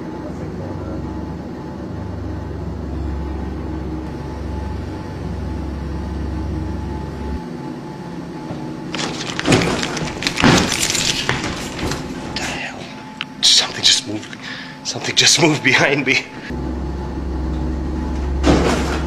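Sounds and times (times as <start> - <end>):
furnace humming: 0.0 - 19.0.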